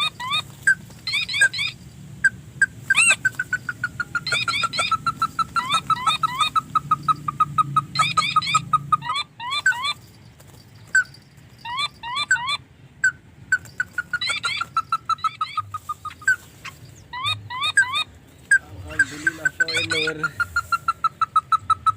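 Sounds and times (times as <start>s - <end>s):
bird calling: 0.0s - 21.9s.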